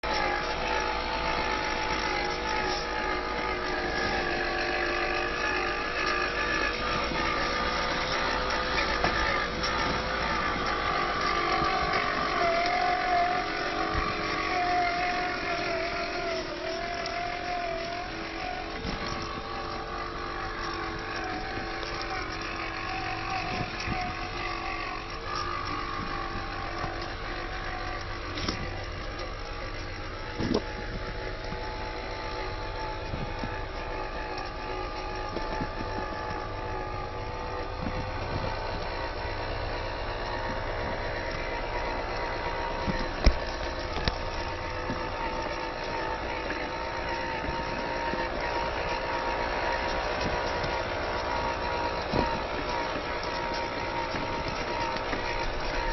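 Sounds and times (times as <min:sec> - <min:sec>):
toy car motor whining: 0:00.0 - 0:55.9.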